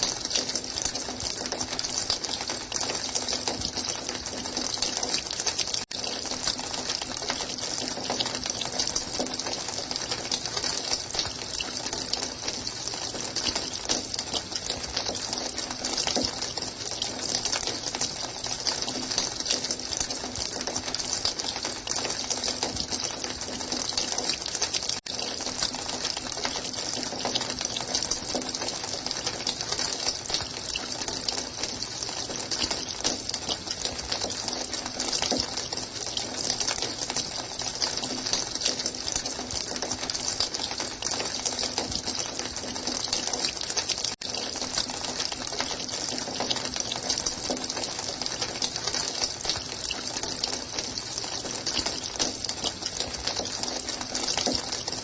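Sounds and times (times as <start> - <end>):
running water gushing: 0.0 - 55.0.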